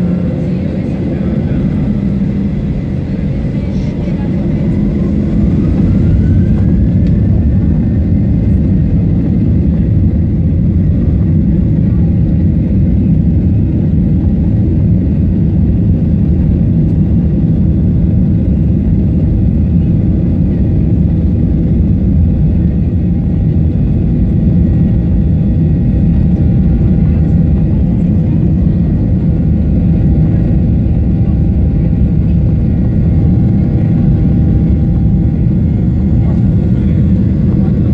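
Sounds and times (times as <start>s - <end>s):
jet engines rumbling: 0.0s - 37.9s.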